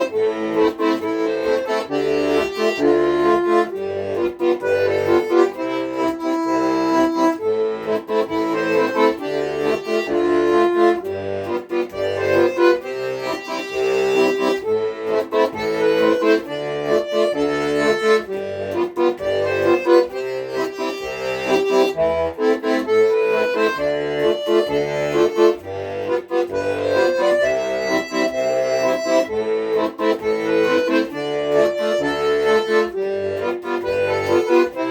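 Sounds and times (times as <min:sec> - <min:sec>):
accordion playing: 0:00.0 - 0:34.9.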